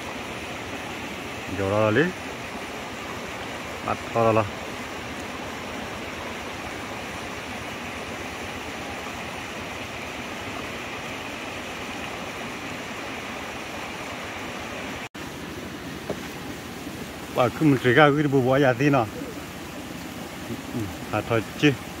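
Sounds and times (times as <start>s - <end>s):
rushing floodwater: 0.0s - 22.0s.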